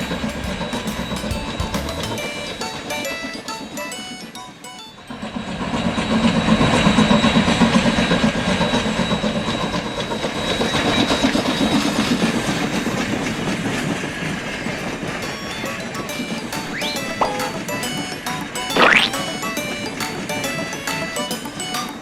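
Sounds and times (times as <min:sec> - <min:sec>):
train clickety-clack on rails: 0:00.0 - 0:22.0.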